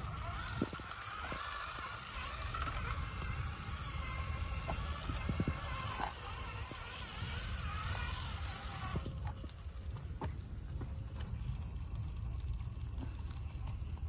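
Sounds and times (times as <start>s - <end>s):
electric motor and gearbox whining: 0.0s - 14.0s.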